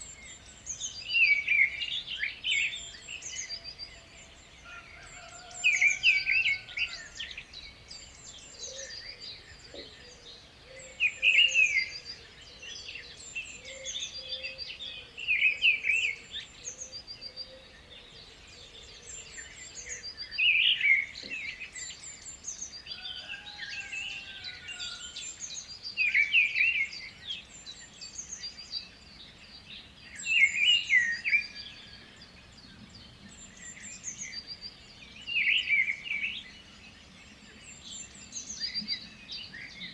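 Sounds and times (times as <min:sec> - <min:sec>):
loud warbled bird song: 0:00.0 - 0:39.9.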